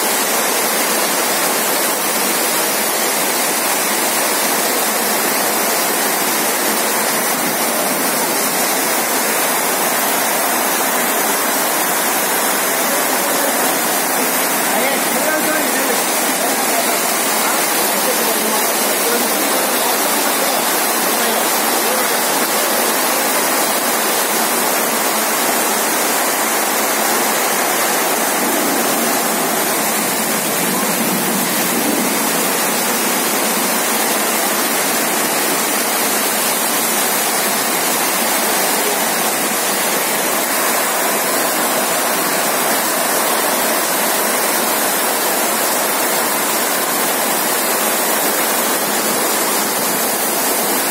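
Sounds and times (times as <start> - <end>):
heavy rain on metal roof: 0.0 - 50.9.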